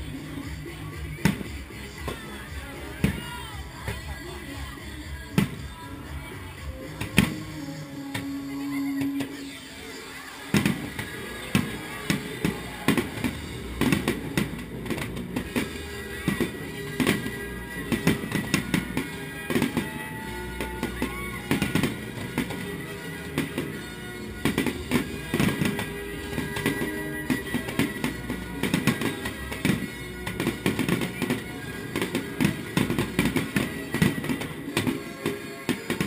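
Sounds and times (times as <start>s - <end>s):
fireworks bursting: 0.0s - 36.0s
music playing: 0.0s - 36.0s.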